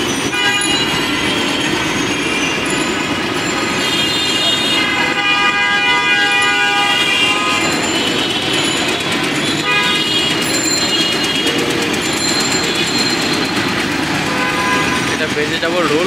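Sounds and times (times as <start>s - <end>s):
traffic rumble: 0.0s - 16.0s
vehicle horns honking: 0.3s - 15.4s.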